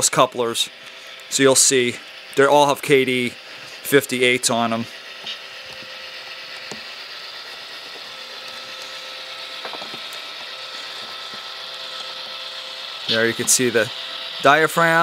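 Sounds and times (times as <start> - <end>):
model locomotive whirring: 0.0 - 15.0.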